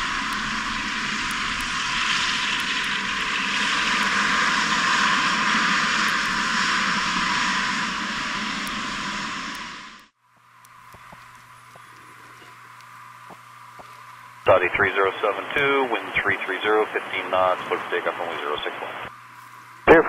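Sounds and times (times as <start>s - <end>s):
jet engines taxiing: 0.0s - 10.2s, 10.8s - 19.2s.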